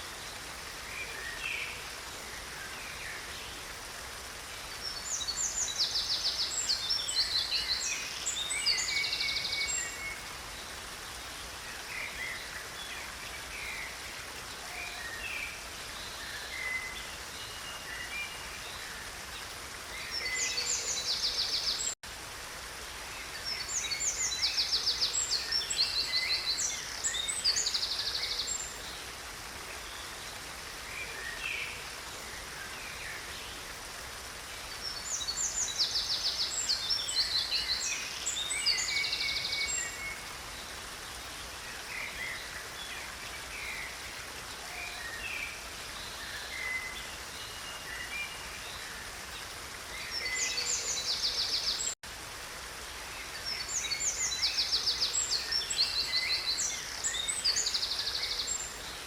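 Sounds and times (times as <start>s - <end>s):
stream water running: 0.0s - 59.0s.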